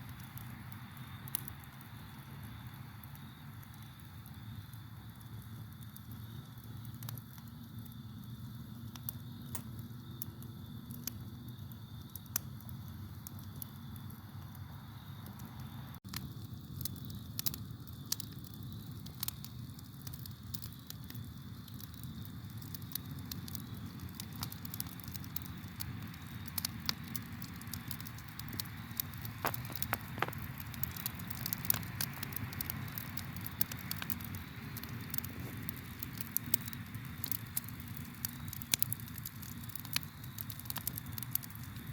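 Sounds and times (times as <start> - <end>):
campfire crackling and popping: 0.0 - 41.9
crickets trilling: 0.0 - 41.9.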